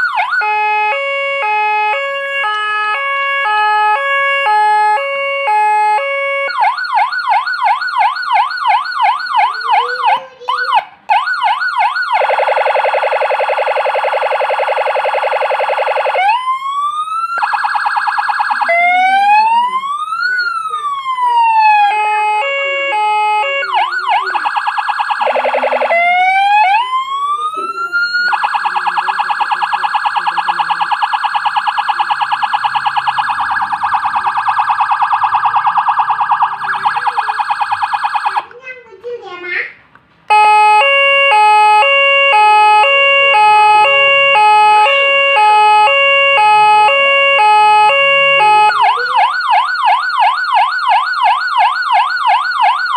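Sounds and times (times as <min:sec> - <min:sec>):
electronic siren: 0:00.0 - 0:38.5, 0:40.3 - 0:52.9.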